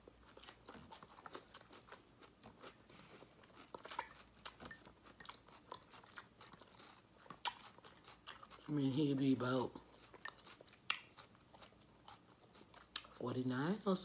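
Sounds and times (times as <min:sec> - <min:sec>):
chewing and crunching vegetables: 0:00.0 - 0:13.7.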